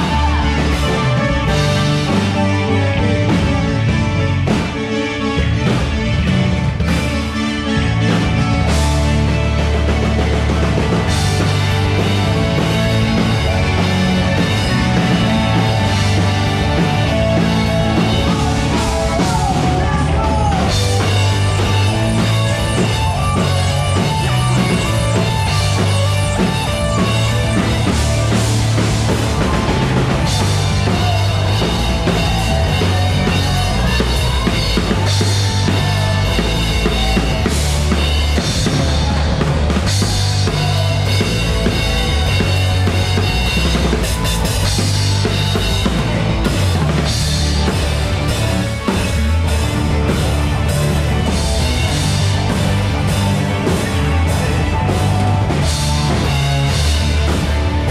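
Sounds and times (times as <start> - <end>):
bass guitar: 0.0 - 57.9
drum kit: 0.0 - 57.9
electric guitar: 0.0 - 57.9
keyboard: 0.0 - 57.9.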